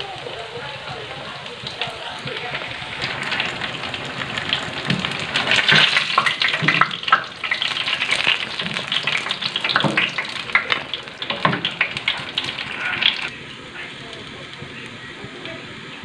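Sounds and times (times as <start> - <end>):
tofu sizzling in oil: 0.0 - 16.0.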